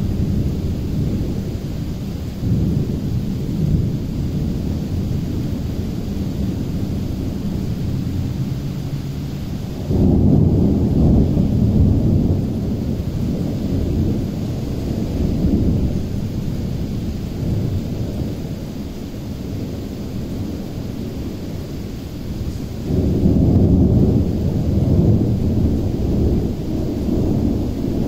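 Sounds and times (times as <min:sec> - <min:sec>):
thunder rumbling: 0:00.0 - 0:28.0.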